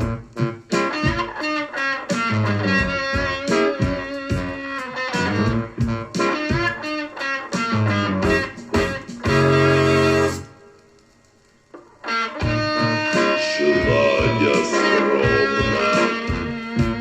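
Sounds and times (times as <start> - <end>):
bass guitar: 0.0 - 10.5, 12.4 - 17.0
electric guitar: 0.0 - 17.0.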